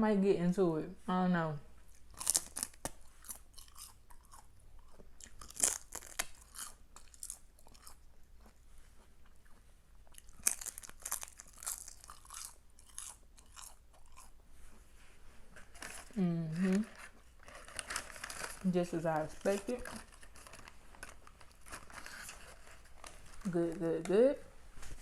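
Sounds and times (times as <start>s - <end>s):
crunching and chewing seaweed: 1.9s - 14.8s, 15.6s - 23.9s.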